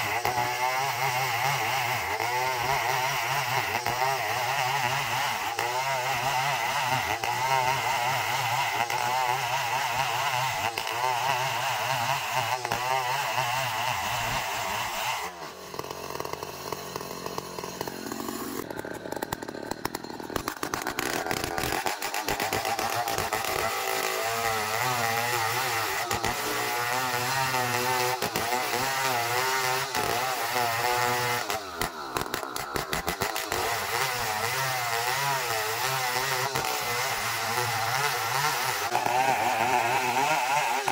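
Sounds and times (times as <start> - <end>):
motor saw cutting wood: 0.0 - 40.9.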